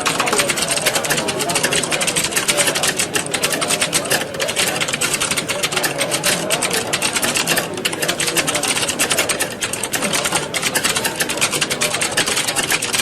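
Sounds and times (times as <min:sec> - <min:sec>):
keyboards typing clatter: 0:00.0 - 0:13.0.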